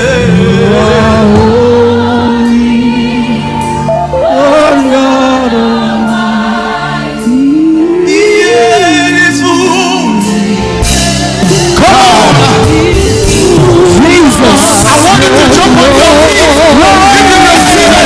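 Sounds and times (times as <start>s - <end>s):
gospel choir singing: 0.0s - 18.0s
held bass notes: 0.0s - 18.0s
instrumental accompaniment: 0.7s - 18.0s.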